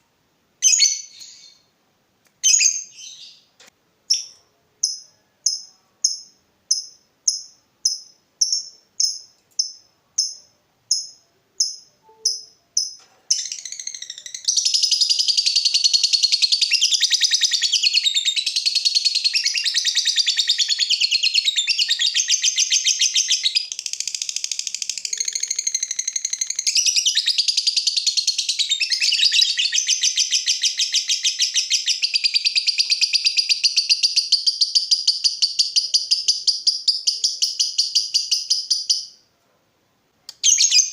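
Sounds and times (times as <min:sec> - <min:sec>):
lovebird chirping and trilling: 0:00.6 - 0:01.7, 0:02.4 - 0:03.5, 0:04.1 - 0:39.2, 0:40.4 - 0:40.9.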